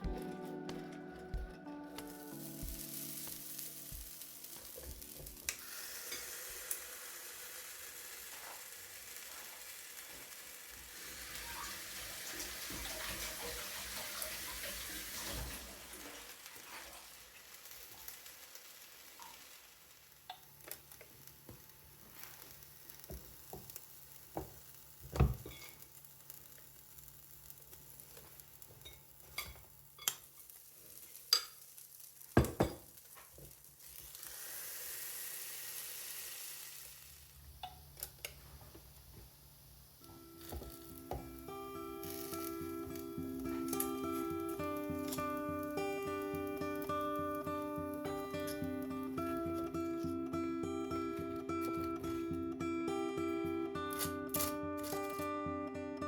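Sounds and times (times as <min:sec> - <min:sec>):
batter sizzling in a waffle iron: 0:02.1 - 0:52.4, 0:53.1 - 0:55.4.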